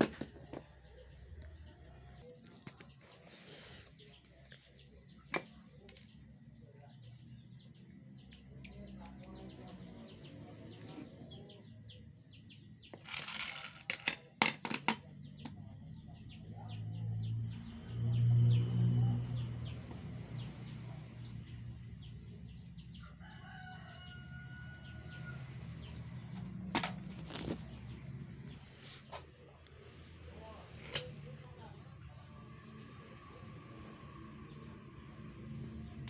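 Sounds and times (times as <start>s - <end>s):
birds chirping: 0.0s - 33.4s.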